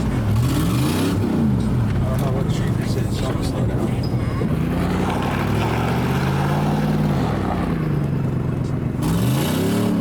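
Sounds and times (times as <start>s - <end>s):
truck engine revving: 0.0s - 2.5s, 3.8s - 10.0s.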